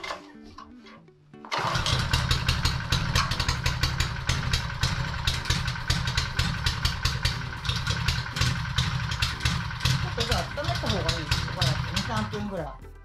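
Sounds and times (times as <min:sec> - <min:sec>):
plate compactor engine rattling: 0:01.5 - 0:12.6.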